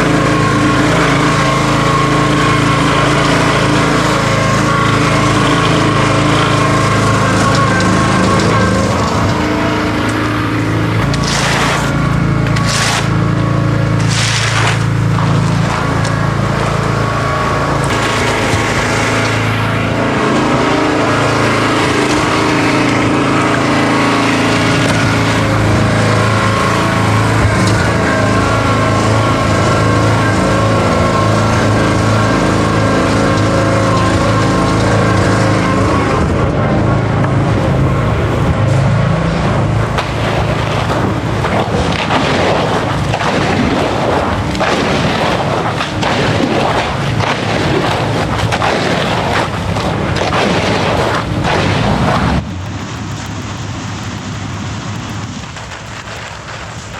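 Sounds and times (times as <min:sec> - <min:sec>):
engine running loudly: 0:00.0 - 0:56.9.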